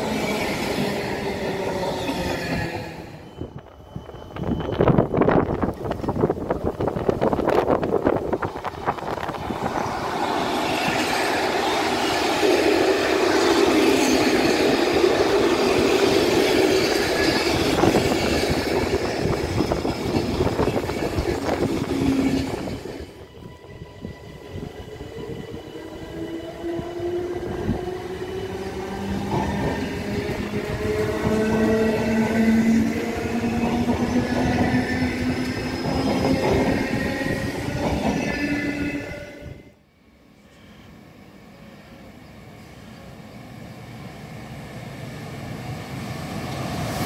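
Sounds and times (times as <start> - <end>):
electric train whining: 0.0 - 39.8.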